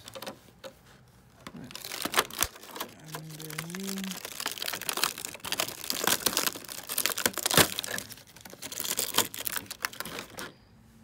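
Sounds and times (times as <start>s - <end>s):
plastic packaging crinkling: 1.4s - 10.6s.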